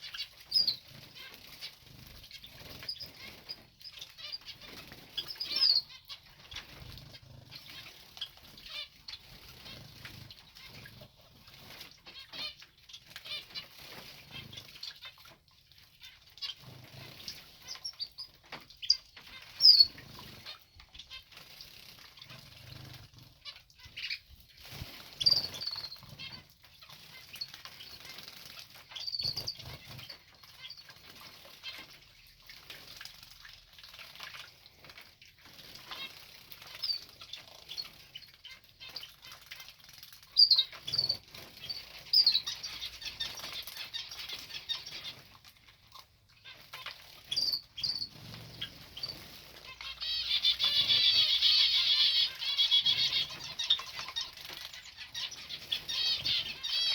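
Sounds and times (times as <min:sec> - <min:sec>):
birds fluttering and splashing: 0:00.0 - 0:56.9.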